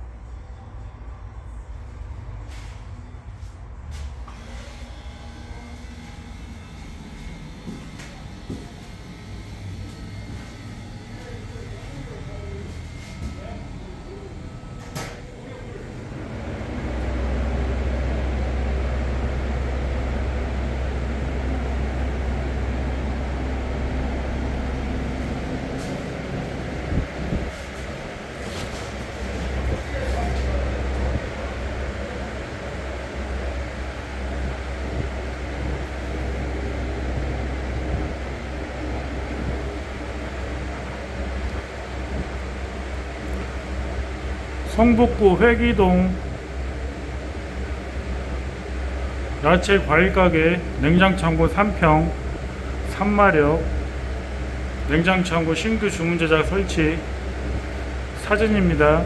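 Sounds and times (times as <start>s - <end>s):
faint hum tones: 0.0s - 59.0s.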